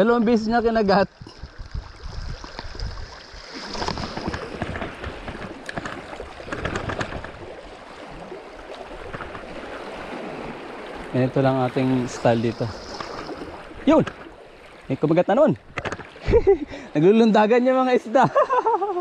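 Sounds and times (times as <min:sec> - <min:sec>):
sea water lapping at shore: 0:00.0 - 0:19.0.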